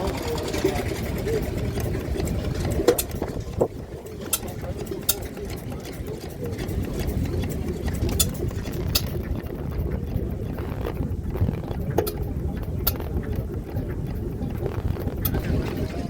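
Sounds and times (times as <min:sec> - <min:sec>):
sharp clicks: 0:00.0 - 0:16.0
stationary engines chugging: 0:00.0 - 0:16.0.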